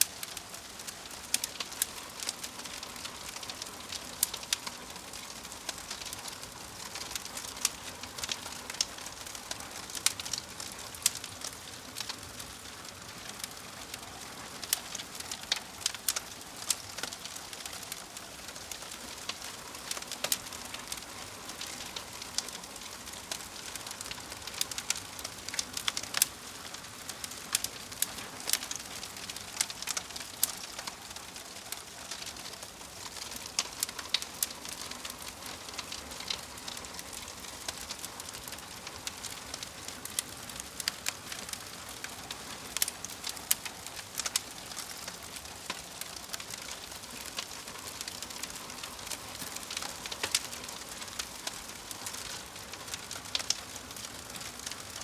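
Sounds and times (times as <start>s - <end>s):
logs crackling in fireplace: 0.0s - 55.0s.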